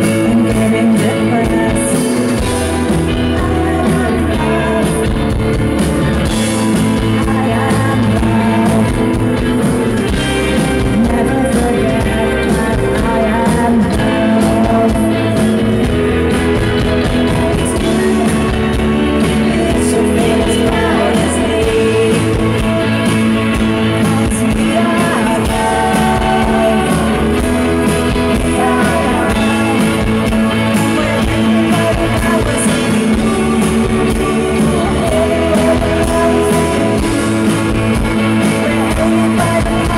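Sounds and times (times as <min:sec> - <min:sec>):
woman singing: 0:00.0 - 0:05.6, 0:06.3 - 0:15.6, 0:17.0 - 0:39.9
bass guitar: 0:00.0 - 0:39.9
drums: 0:00.0 - 0:39.9
electric guitars: 0:00.0 - 0:39.9.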